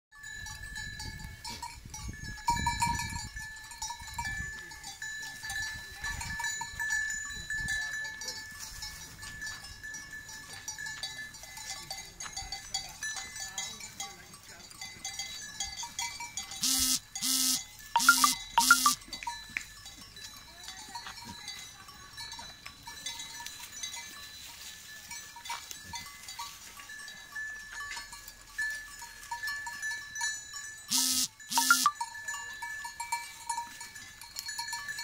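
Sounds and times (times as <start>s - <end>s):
animal bells tinkling: 0.1s - 35.0s.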